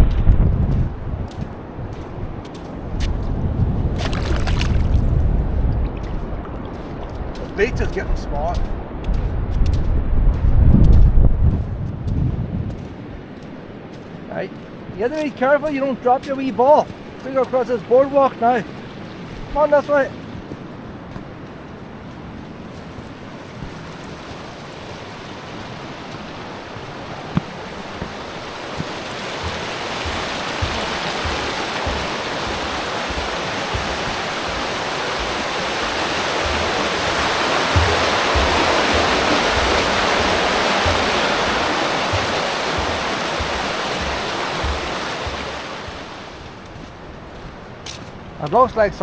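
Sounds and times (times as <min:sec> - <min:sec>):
rushing water: 0:00.0 - 0:09.0, 0:12.8 - 0:49.0
footsteps on a boardwalk: 0:00.0 - 0:49.0.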